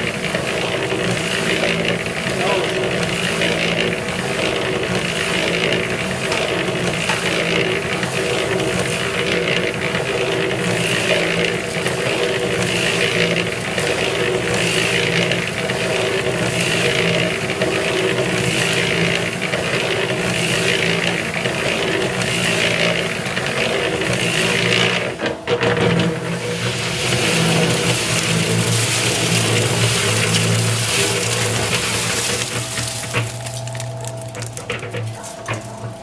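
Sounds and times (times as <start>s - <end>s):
concrete mixer motor running: 0.0s - 36.0s
concrete tumbling in drum: 0.0s - 36.0s.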